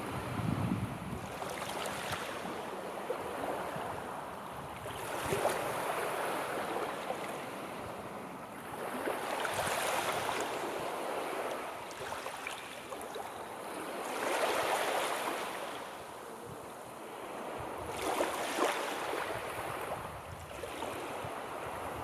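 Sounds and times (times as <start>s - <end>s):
sea waves washing onto shore: 0.0s - 22.0s.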